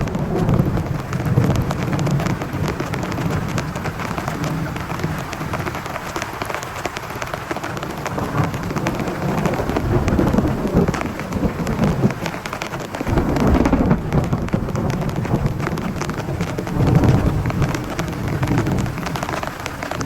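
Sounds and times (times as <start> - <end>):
heavy rain on a tent: 0.0 - 20.0
thunder rumbling: 0.0 - 20.0.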